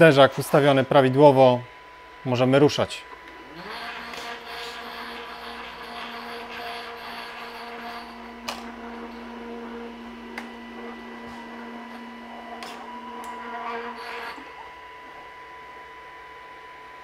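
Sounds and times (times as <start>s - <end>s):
edge bander motor humming: 0.0s - 17.0s.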